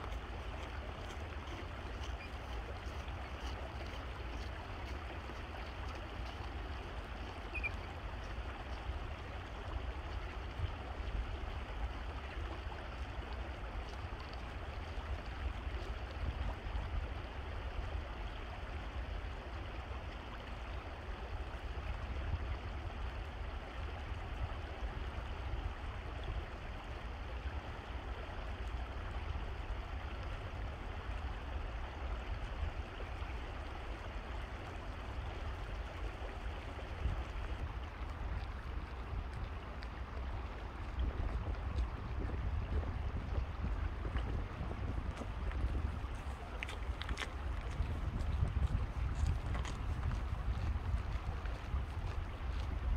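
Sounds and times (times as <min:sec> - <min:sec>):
stream water flowing: 0:00.0 - 0:52.9.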